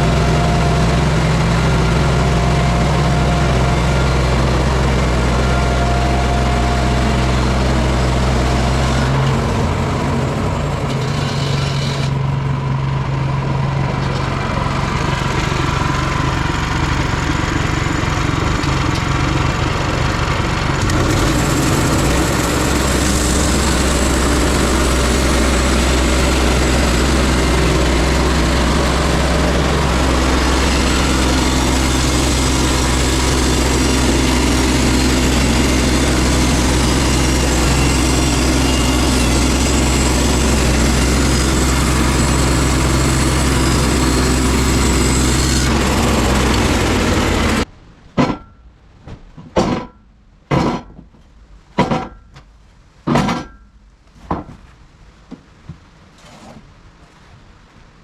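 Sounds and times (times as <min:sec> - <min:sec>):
sawmill engine running: 0:00.0 - 0:47.7.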